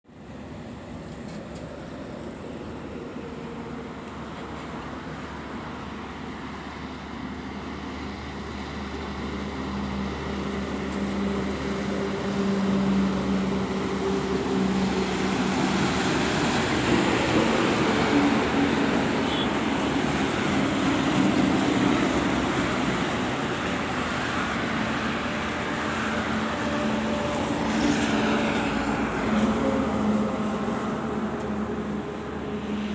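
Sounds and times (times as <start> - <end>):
road and tyre noise: 0.0 - 32.9
heavy trucks engine drone: 0.1 - 32.9.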